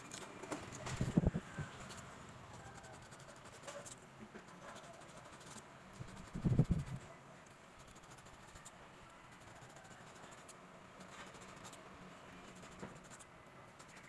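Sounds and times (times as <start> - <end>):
faint scratching: 0.0 - 14.0.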